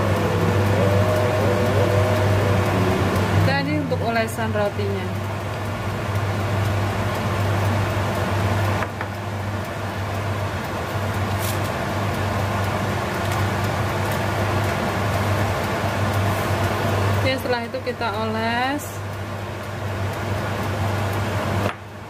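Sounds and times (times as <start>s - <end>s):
appliance motor humming: 0.0s - 22.0s.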